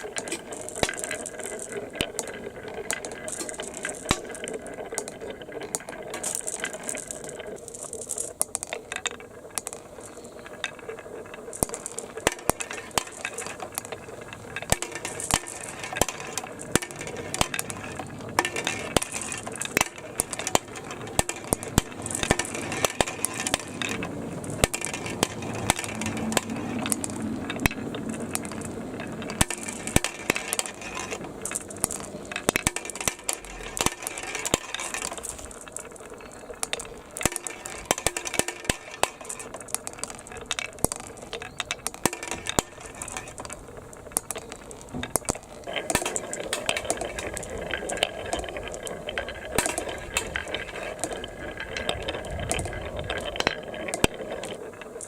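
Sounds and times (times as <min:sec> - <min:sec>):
balls clicking along plastic track: 0:00.0 - 0:55.0.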